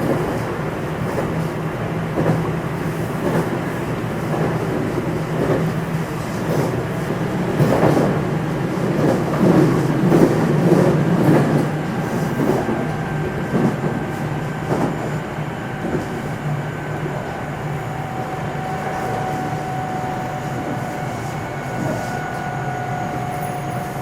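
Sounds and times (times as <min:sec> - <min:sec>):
train wheels rumbling and clacking: 0:00.0 - 0:24.0.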